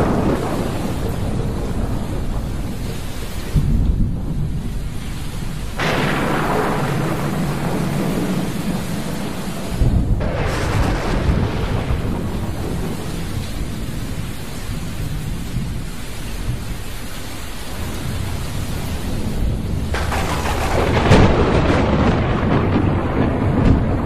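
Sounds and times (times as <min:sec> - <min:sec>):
sharp thunderclap: 0:00.0 - 0:17.0, 0:17.7 - 0:24.0
low rumbling thunder: 0:00.0 - 0:24.0
steady rain: 0:00.0 - 0:24.0.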